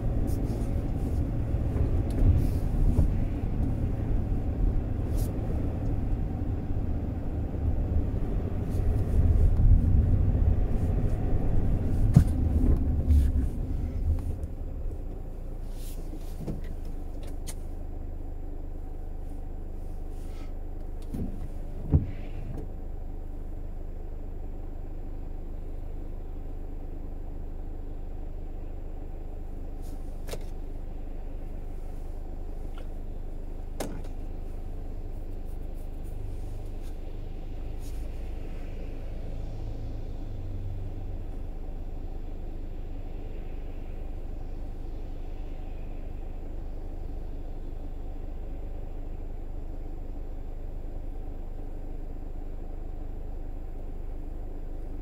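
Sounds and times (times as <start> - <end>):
car road and engine rumble: 0.0 - 55.0
low engine hum: 0.0 - 55.0.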